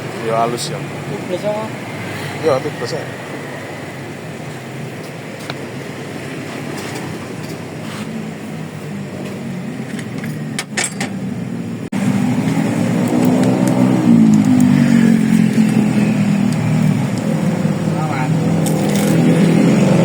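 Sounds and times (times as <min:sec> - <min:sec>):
road traffic: 0:00.0 - 0:20.0
vehicle engine running: 0:00.0 - 0:20.0.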